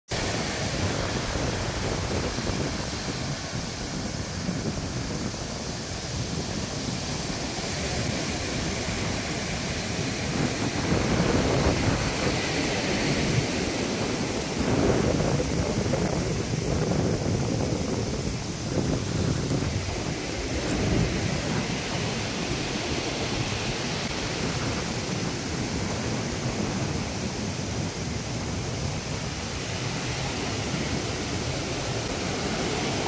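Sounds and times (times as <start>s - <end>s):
surf breaking on beach: 0.1s - 33.0s
wind on microphone: 0.1s - 33.0s.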